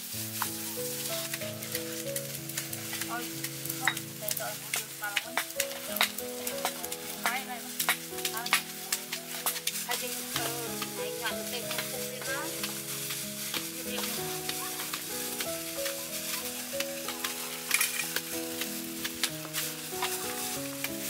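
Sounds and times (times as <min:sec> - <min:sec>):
food sizzling and popping: 0:00.0 - 0:21.0
slow music of held chords: 0:00.0 - 0:21.0.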